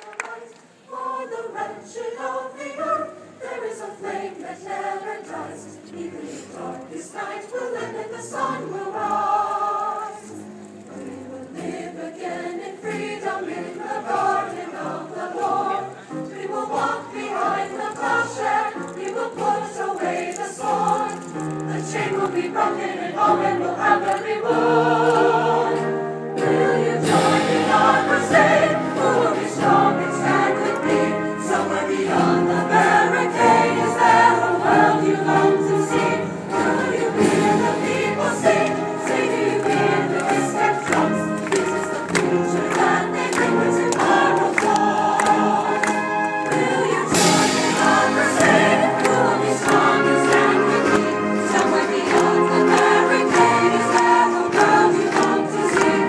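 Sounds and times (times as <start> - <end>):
choir singing in harmony: 0.0 - 56.0.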